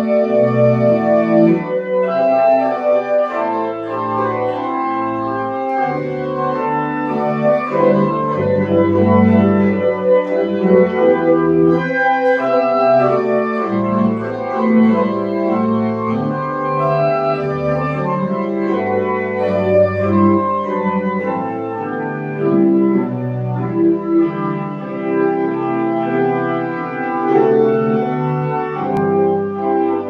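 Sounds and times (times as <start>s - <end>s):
pipe organ chords: 0.0s - 30.0s.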